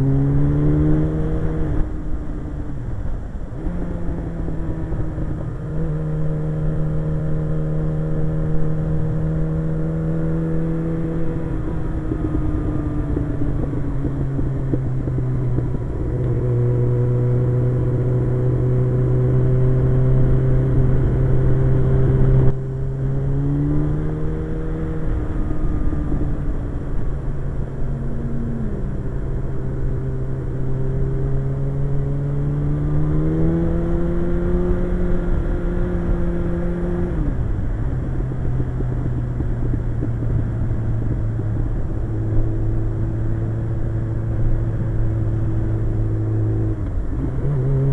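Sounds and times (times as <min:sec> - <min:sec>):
motorcycle engine running: 0:03.6 - 0:47.9.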